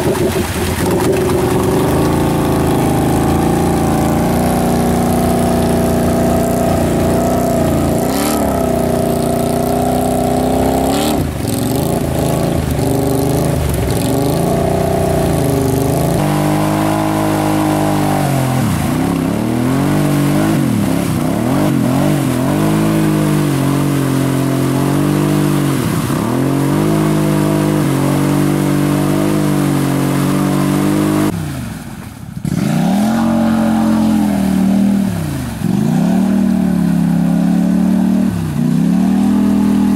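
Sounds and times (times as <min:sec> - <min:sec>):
atv engines revving: 0:00.0 - 0:31.6, 0:32.4 - 0:39.9.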